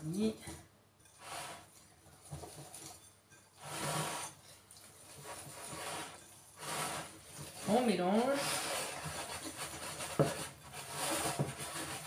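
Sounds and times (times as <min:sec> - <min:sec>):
whisk scraping and swishing in bowl: 0:01.0 - 0:12.0.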